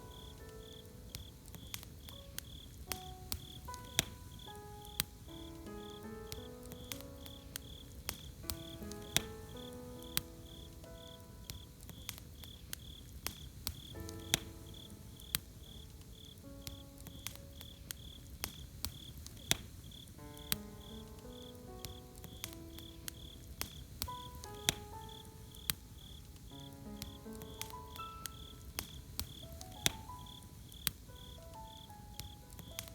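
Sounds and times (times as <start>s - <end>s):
soft melodic background music: 0.0s - 18.5s, 20.1s - 32.9s
campfire crackling and popping: 0.0s - 32.9s
crickets chirping: 0.0s - 32.9s.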